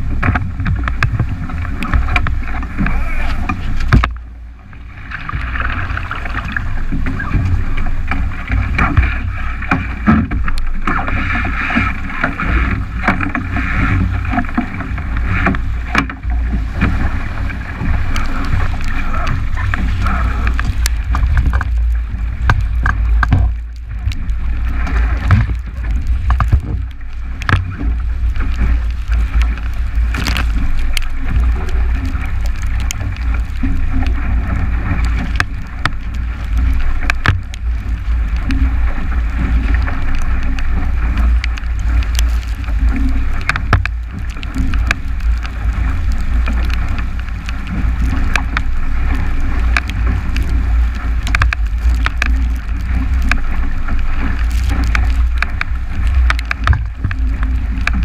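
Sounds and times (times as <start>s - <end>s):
water rushing and splashing: 0.0s - 58.0s
wind buffeting microphone: 0.0s - 58.0s.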